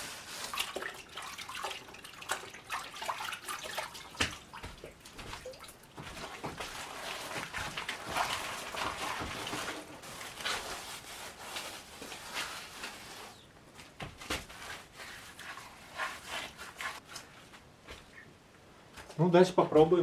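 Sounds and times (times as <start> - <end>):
wet rag scrubbing wood: 0.0 - 13.5, 14.1 - 17.6.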